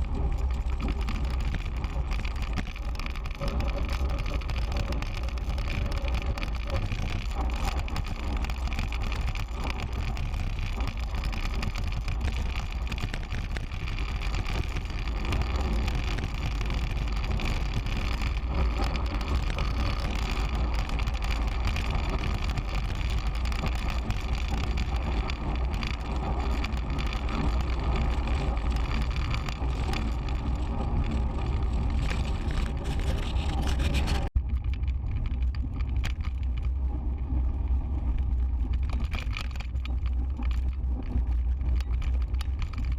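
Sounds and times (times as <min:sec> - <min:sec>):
bicycle tyre and road noise: 0:00.0 - 0:42.9
wind over microphone: 0:00.0 - 0:42.9.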